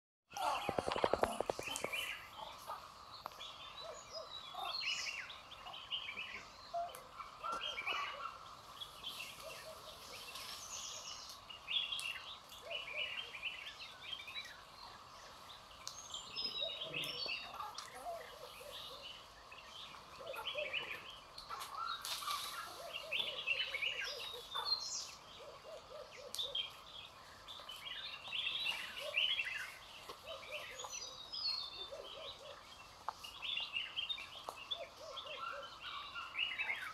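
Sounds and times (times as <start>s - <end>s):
forest birds chirping: 0.3s - 36.9s.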